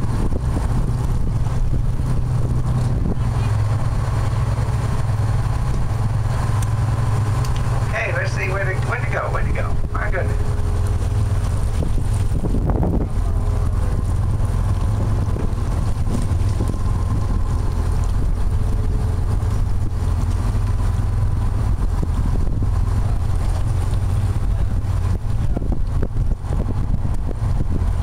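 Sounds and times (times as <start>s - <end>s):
boat engine droning: 0.0s - 28.0s
wind rumbling on microphone: 0.0s - 28.0s.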